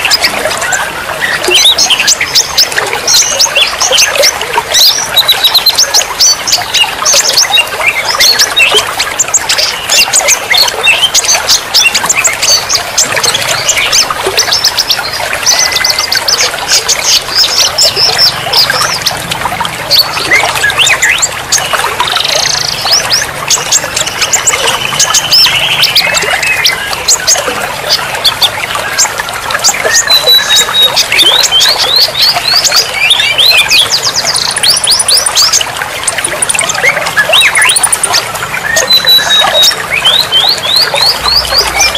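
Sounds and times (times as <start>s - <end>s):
songbirds chirping and whistling: 0.0s - 41.9s
trickle of running water: 0.0s - 41.9s.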